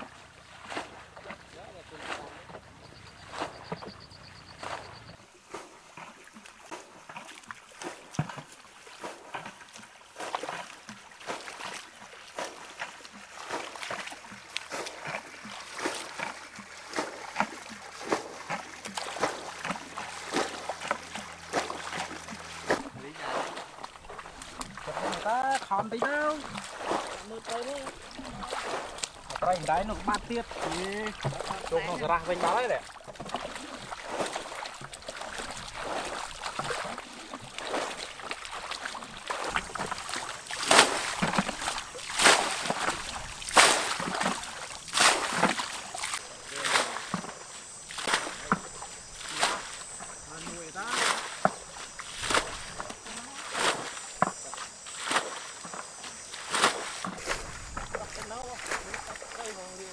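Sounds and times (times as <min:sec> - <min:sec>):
hands splashing in muddy water: 0:00.0 - 0:59.9.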